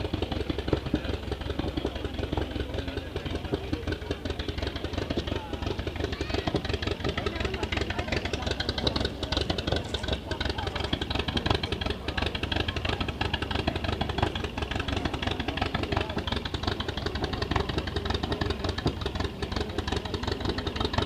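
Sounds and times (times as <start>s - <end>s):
aircraft engine pulsing: 0.0s - 21.0s.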